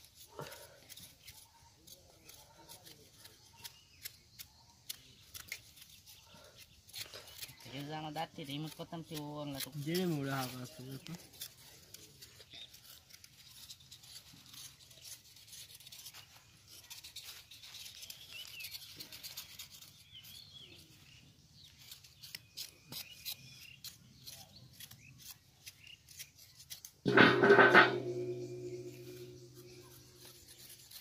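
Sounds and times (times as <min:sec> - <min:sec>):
knife peeling potatoes: 0:00.0 - 0:31.0.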